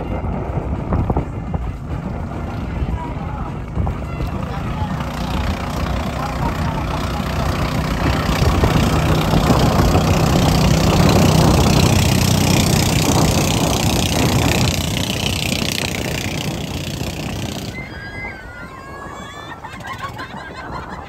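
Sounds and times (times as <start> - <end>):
water rushing and splashing: 0.0 - 20.0
motorboat engine running: 0.0 - 21.0.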